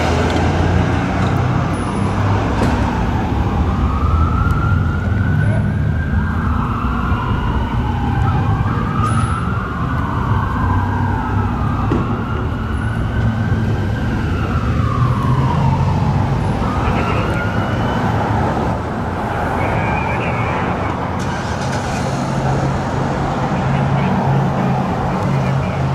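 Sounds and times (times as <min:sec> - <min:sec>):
diesel engine rumble passing: 0:00.0 - 0:25.9
emergency sirens wailing: 0:00.0 - 0:25.9.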